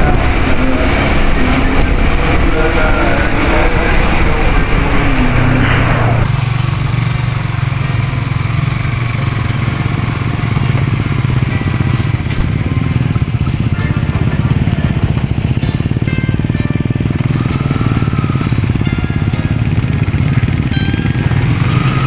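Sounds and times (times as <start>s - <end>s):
motorcycle engine cruising: 0.0s - 22.0s
road and wind noise: 0.0s - 22.0s
truck passing rush: 0.0s - 22.0s.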